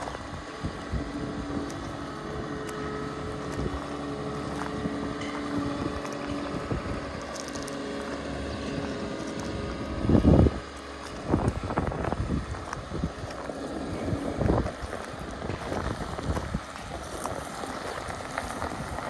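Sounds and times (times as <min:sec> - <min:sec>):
diesel engine running: 0:00.0 - 0:19.0
wheels rolling on gravel: 0:00.0 - 0:19.0
wind buffeting microphone: 0:00.0 - 0:19.0.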